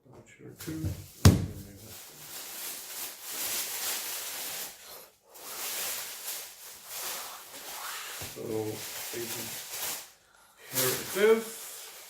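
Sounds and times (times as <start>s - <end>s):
packing material rustling: 0.7s - 12.0s.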